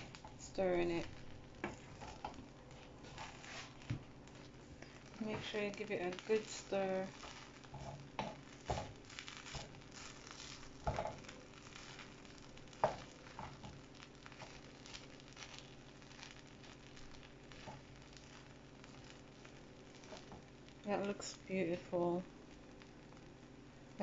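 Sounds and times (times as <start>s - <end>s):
wooden spoon stirring rice: 0.0s - 21.4s.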